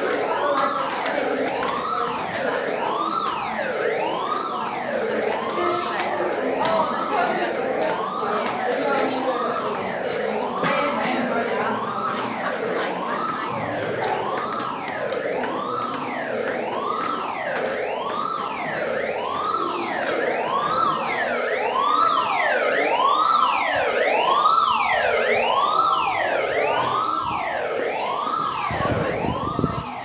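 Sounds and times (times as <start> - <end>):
fire alarm wailing tone: 0.0 - 30.0.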